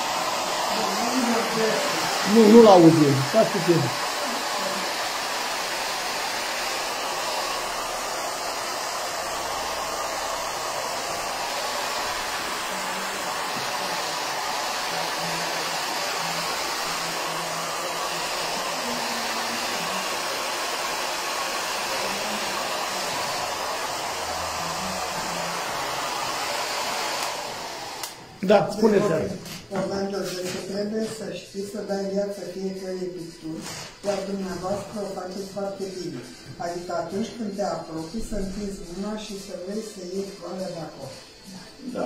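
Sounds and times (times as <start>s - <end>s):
hair dryer blowing: 0.0s - 31.2s, 31.9s - 42.0s.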